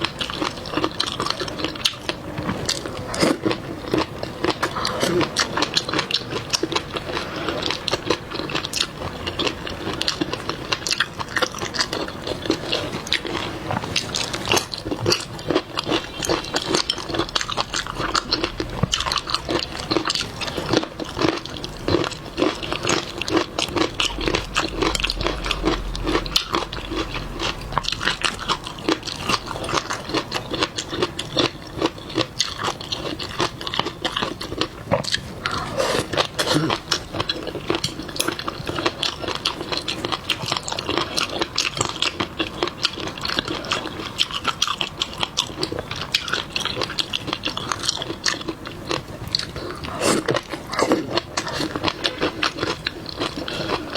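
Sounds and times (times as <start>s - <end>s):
chewing and crunching: 0.0s - 53.9s.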